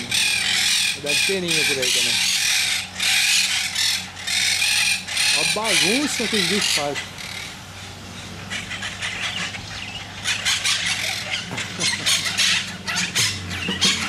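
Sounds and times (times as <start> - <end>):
parakeets squawking and chattering: 0.0 - 14.0.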